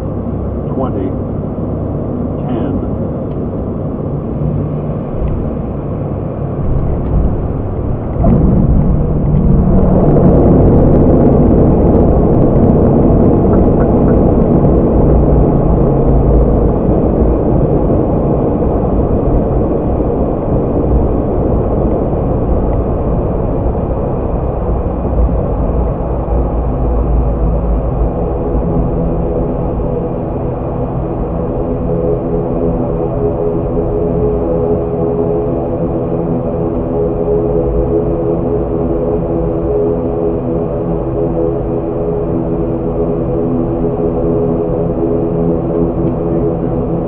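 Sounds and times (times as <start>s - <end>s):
propeller roar: 0.0s - 47.0s
turboprop engines rumbling: 0.0s - 47.0s.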